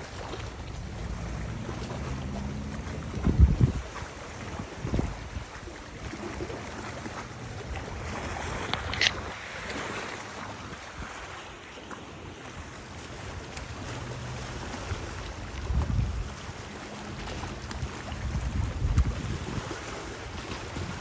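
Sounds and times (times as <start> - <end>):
river water rushing: 0.0 - 21.0
wind gusting on microphone: 0.4 - 11.7, 14.0 - 21.0.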